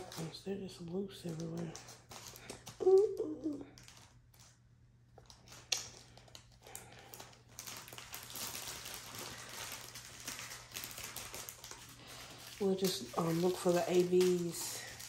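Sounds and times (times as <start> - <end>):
plastic bags rustling and crinkling: 0.0 - 15.0.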